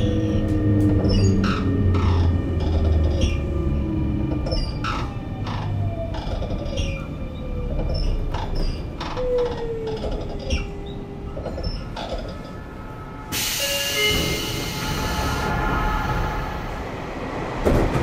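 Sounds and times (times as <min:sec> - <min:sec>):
electric train inverter whine: 0:00.0 - 0:17.8
train running noise: 0:00.0 - 0:18.0.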